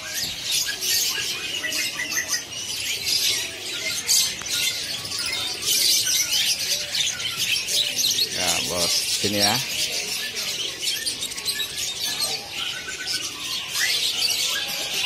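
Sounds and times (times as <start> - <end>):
small birds chirping and twittering: 0.0 - 15.0.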